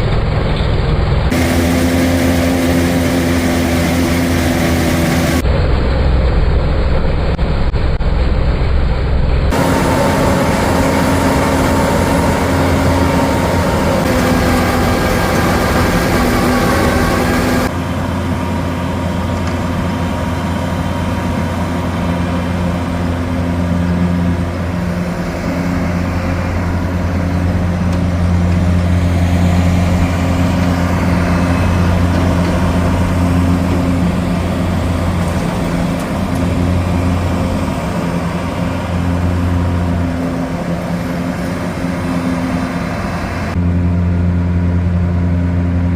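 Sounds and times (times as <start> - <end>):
heavy vehicle engine running: 0.0 - 45.9.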